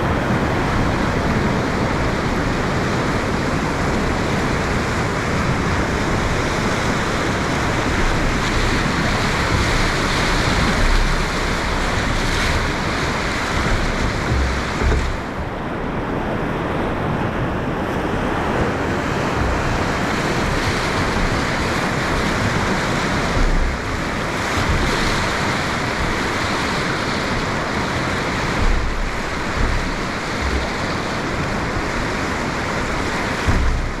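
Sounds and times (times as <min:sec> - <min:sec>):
whitewater rushing and splashing: 0:00.0 - 0:34.0
wind buffeting microphone: 0:00.0 - 0:34.0.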